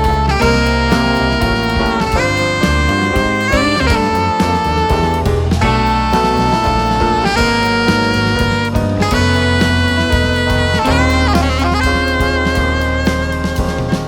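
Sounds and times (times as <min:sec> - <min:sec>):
bass: 0:00.0 - 0:14.0
drums: 0:00.0 - 0:14.0
piano: 0:00.0 - 0:14.0
saxophone long notes: 0:00.0 - 0:14.0.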